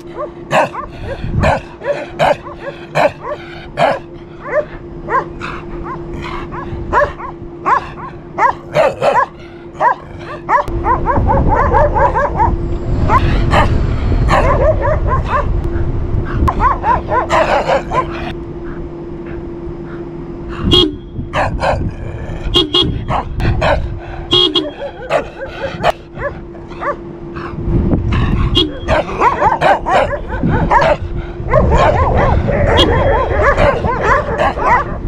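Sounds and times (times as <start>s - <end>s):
dog barking: 0.0s - 13.7s, 14.3s - 15.6s, 16.5s - 18.3s, 21.4s - 21.9s, 22.7s - 27.0s, 28.5s - 35.0s
low rumble: 0.0s - 35.0s.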